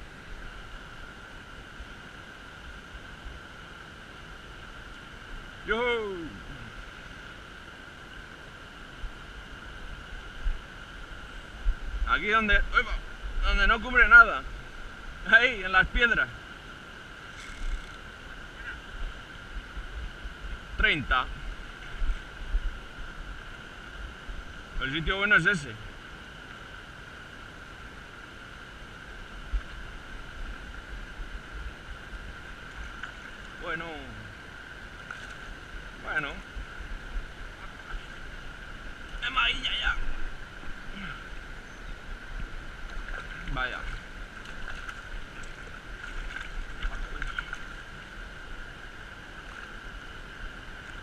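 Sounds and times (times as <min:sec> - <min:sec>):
river running over stones: 0:00.0 - 0:51.0.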